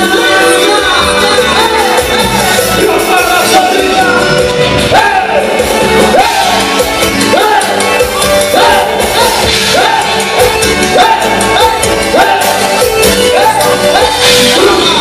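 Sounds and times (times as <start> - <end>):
live band playing latin dance music: 0.0 - 15.0.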